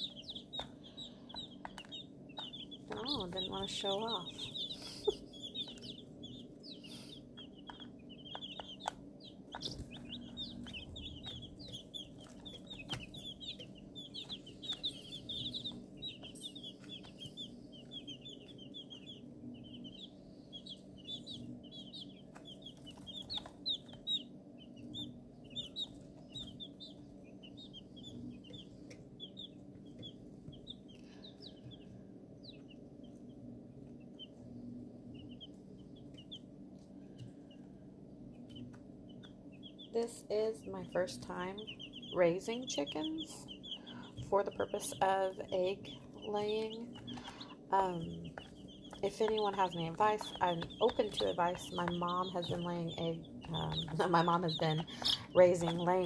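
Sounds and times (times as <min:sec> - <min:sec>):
chicks peeping: 0:00.0 - 0:56.0
steady low hum: 0:00.0 - 0:56.0.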